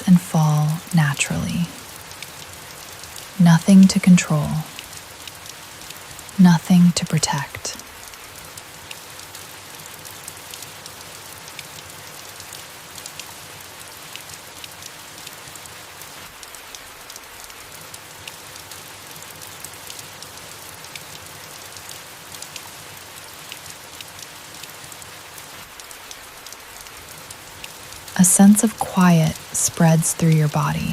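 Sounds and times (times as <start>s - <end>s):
rain pattering on leaves: 0.0s - 30.9s.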